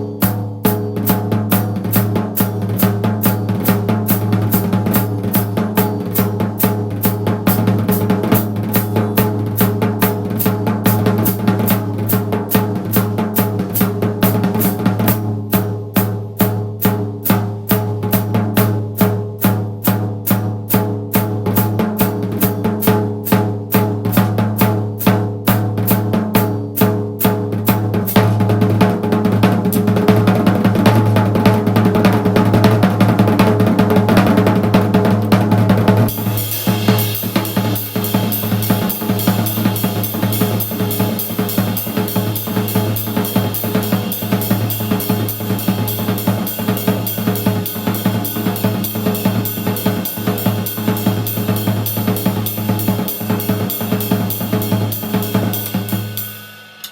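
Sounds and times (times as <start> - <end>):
cymbals and hi-hat: 0.0 - 32.1, 36.0 - 56.9
background music with drum beat: 0.0 - 56.9.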